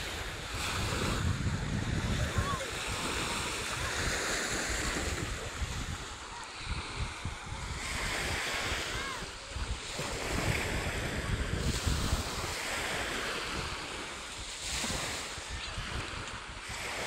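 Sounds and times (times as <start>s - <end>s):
sea waves breaking on shore: 0.0s - 17.0s
wind rumbling on microphone: 0.0s - 17.0s.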